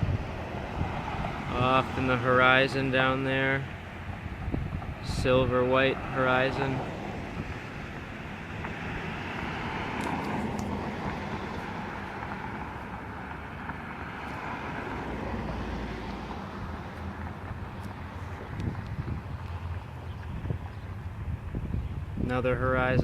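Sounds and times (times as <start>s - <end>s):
distant jet aircraft rushing: 0.0s - 22.3s.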